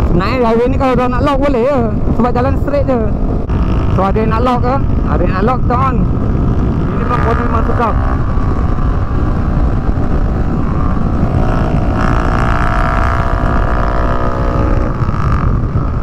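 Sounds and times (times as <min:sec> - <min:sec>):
wind rumble on microphone: 0:00.0 - 0:16.0
motorcycle engine running: 0:02.8 - 0:16.0.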